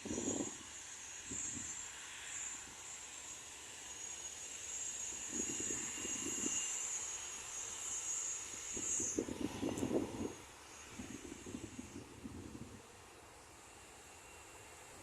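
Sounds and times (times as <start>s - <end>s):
distant jet engine whine: 0.0s - 15.0s.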